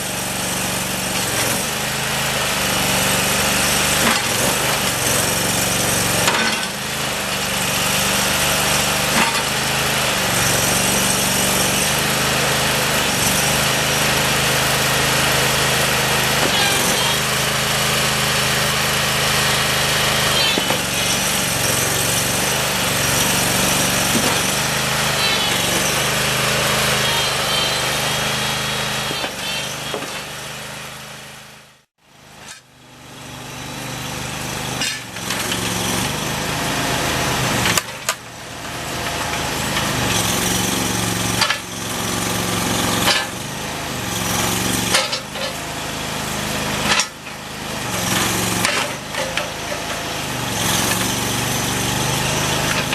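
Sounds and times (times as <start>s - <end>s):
backhoe engine running: 0.0s - 52.9s.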